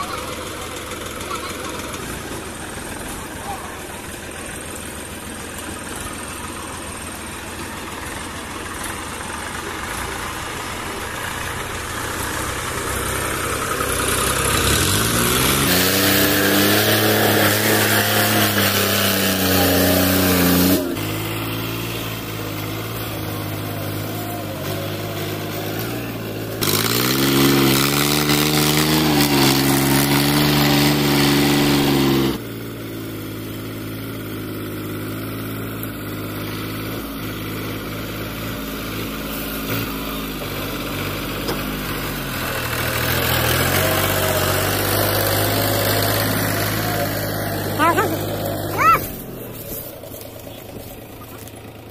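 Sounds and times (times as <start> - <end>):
diesel tractor engine under load: 0.0 - 51.9.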